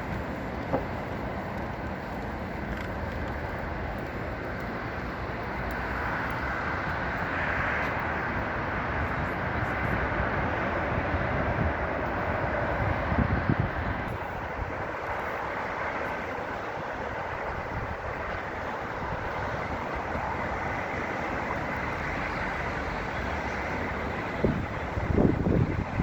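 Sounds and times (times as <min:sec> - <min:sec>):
cable car rumble and hiss: 0:00.0 - 0:26.0
cable car whine: 0:00.0 - 0:26.0.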